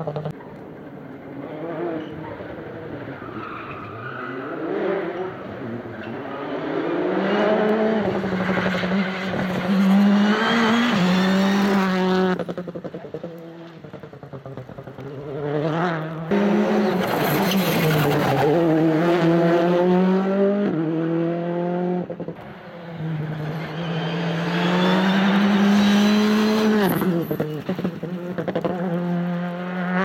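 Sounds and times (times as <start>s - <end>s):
rally car engine revving: 1.3s - 30.0s.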